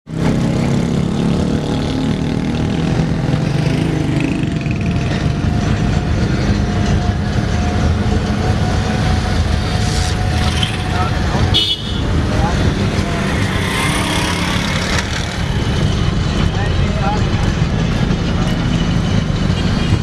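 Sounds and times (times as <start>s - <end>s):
low road rumble: 0.0s - 20.0s.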